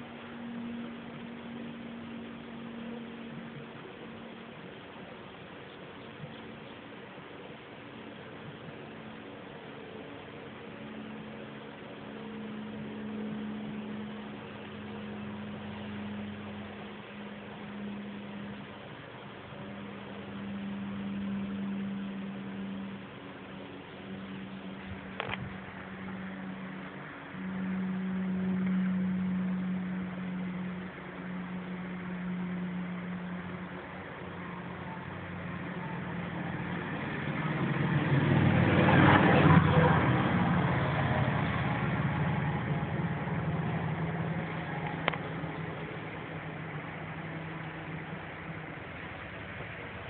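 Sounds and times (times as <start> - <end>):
car running inside cabin: 0.0 - 50.0.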